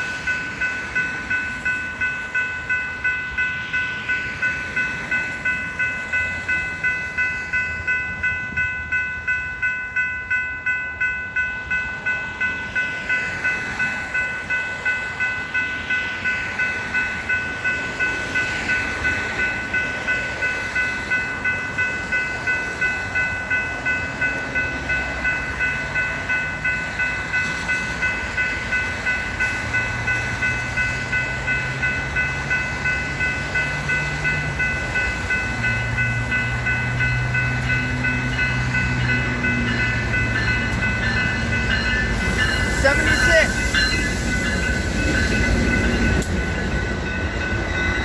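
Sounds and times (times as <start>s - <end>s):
diesel locomotive engine drone: 0.0s - 48.0s
railroad crossing bell ringing: 0.0s - 48.0s.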